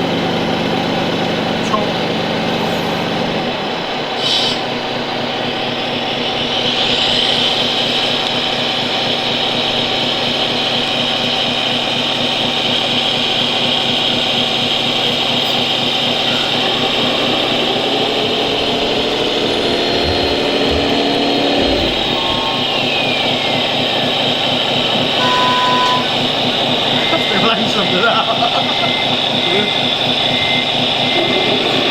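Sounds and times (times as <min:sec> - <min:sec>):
engine-like tone gliding in pitch: 0:00.0 - 0:31.9
motor and gear whine: 0:00.0 - 0:31.9.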